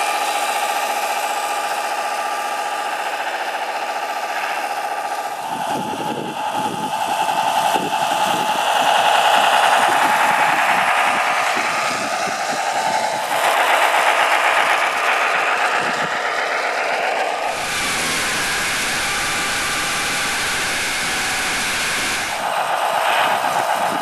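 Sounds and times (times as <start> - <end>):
toy truck motor whirring: 0.0 - 24.0
steady rushing noise: 2.9 - 24.0.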